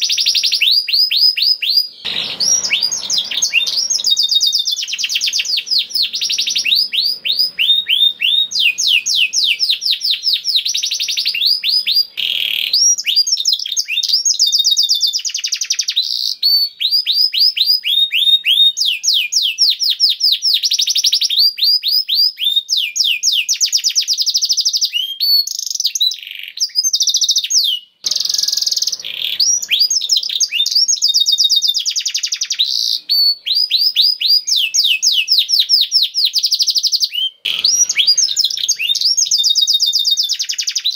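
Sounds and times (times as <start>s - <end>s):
canary singing rapid trills: 0.0s - 21.4s, 22.7s - 40.9s.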